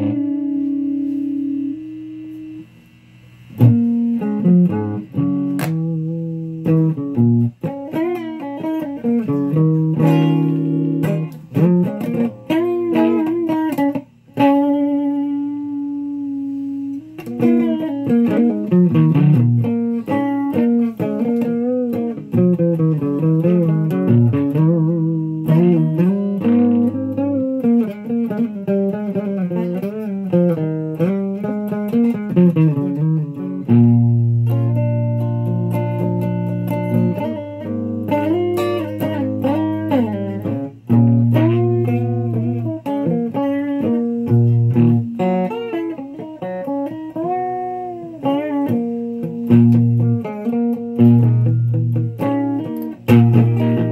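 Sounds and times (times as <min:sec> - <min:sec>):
electric guitar through amplifier: 0:00.0 - 0:53.9.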